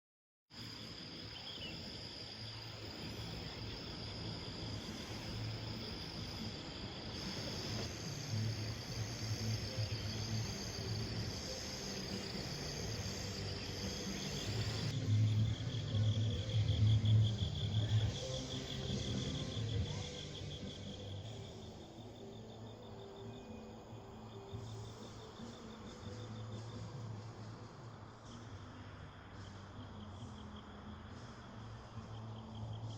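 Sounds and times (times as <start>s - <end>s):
crickets trilling: 0.6s - 32.9s.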